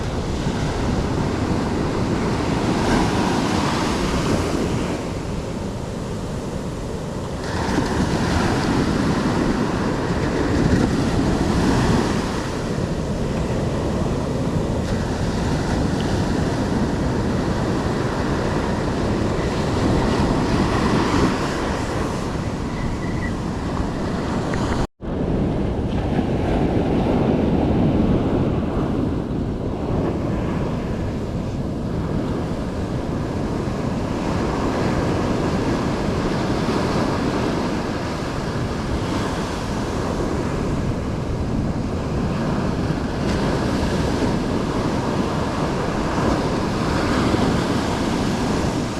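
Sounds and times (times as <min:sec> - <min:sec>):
surf breaking on beach: 0:00.0 - 0:48.9
wind buffeting microphone: 0:00.0 - 0:48.9.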